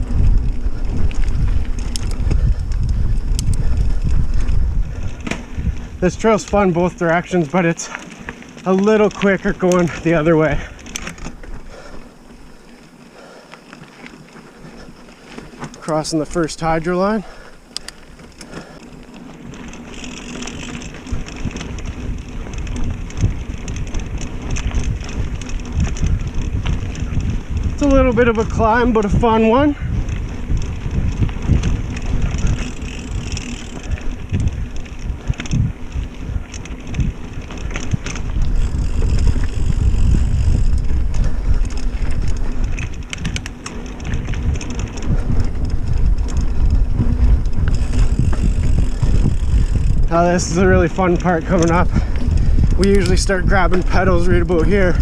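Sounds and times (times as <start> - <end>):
wind rumble on microphone: 0.0 - 12.8, 13.9 - 55.0
bike rattling: 0.0 - 55.0
tyres crackling on dirt: 0.0 - 55.0.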